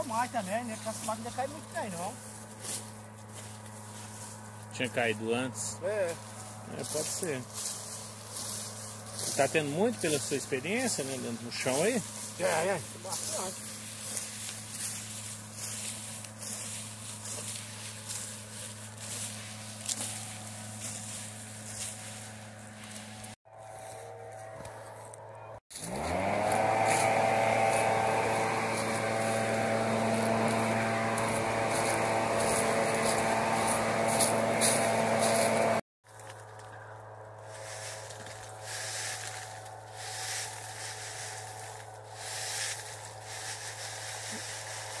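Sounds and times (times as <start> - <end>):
motor running: 0.0 - 35.8, 36.9 - 45.0.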